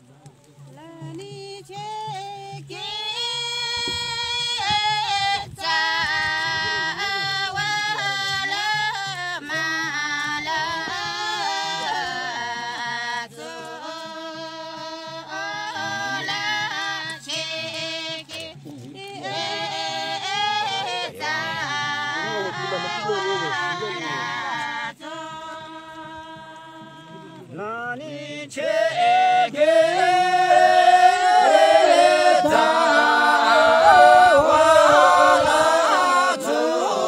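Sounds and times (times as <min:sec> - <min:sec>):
women singing folk song: 0:00.5 - 0:37.0.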